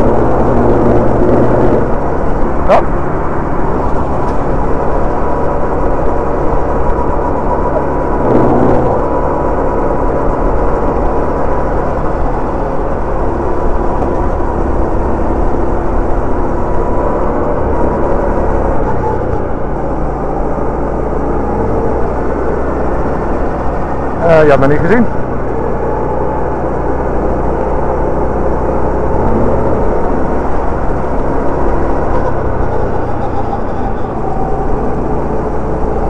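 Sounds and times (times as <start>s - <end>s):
kart engine running at speed: 0.0s - 36.0s.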